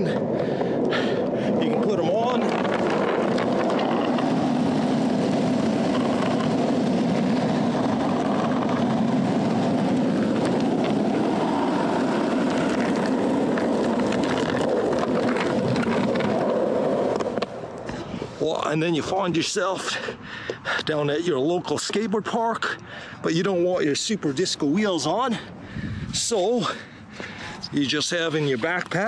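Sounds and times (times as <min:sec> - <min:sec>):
skateboard wheels rolling on pavement: 0:00.0 - 0:29.0.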